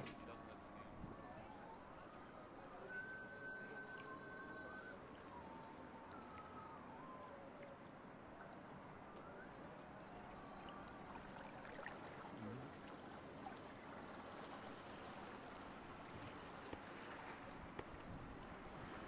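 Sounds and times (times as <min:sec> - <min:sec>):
faint distant voices: 0:00.0 - 0:15.3.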